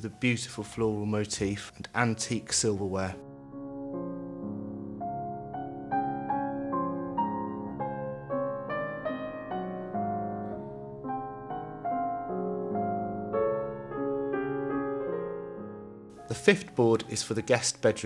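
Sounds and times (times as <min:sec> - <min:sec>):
gentle slow piano music: 0:00.0 - 0:18.0.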